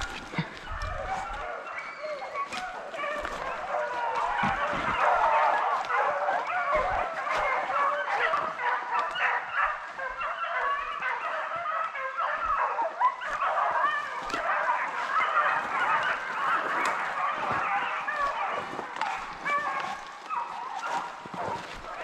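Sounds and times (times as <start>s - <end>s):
pack of hounds baying: 0.0s - 22.0s.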